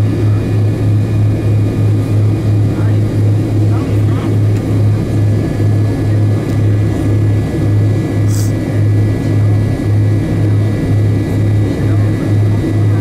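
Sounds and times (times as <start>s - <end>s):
jet engines droning at low power: 0.0s - 13.0s.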